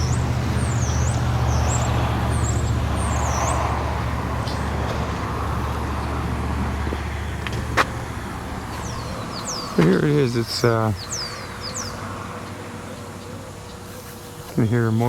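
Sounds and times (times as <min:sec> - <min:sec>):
small bird chirping: 0:00.0 - 0:06.2, 0:08.0 - 0:15.0
vehicle engine rumble: 0:00.0 - 0:15.0.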